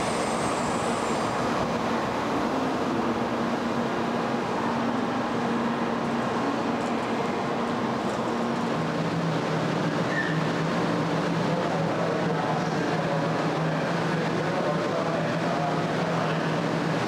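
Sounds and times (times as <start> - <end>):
bullet train rushing rumble: 0.0 - 17.0.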